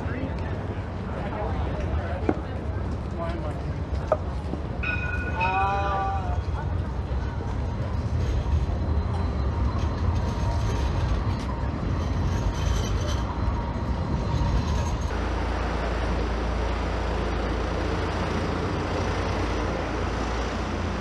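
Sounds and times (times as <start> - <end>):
street traffic road noise: 0.0 - 21.0.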